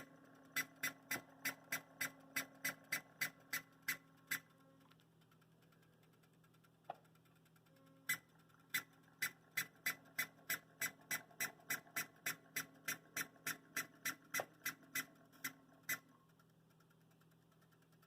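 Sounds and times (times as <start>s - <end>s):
model locomotive chirping: 0.0s - 18.0s.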